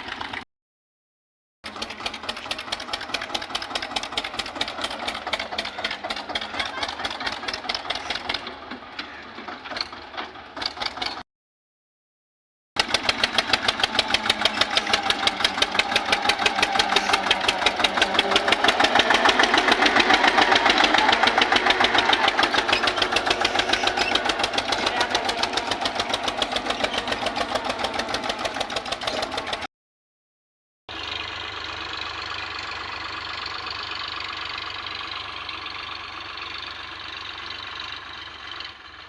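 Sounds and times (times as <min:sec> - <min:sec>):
tractor diesel engine running: 0:00.0 - 0:00.4, 0:01.6 - 0:11.2, 0:12.8 - 0:29.7, 0:30.9 - 0:39.0.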